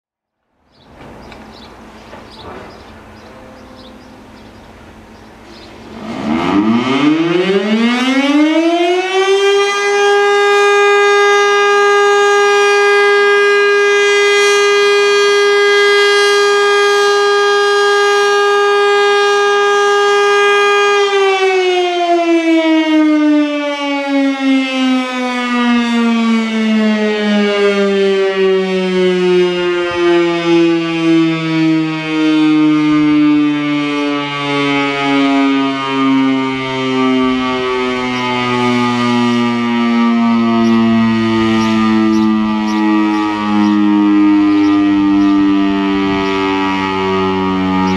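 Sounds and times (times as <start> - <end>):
warning siren: 0.5 - 47.9.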